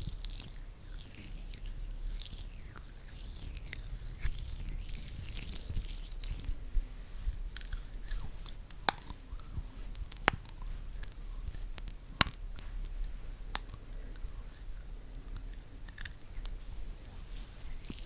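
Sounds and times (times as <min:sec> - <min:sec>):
skin rubbing at microphone: 0:00.0 - 0:18.0.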